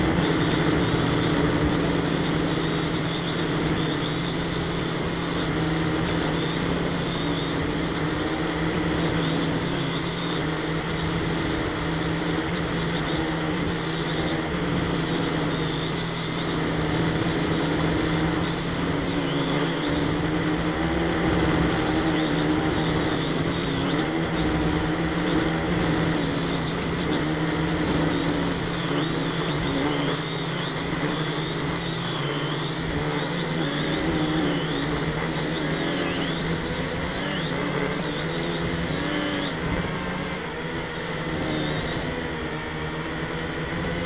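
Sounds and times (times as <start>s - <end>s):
toy drone motors whining: 0.0s - 44.0s.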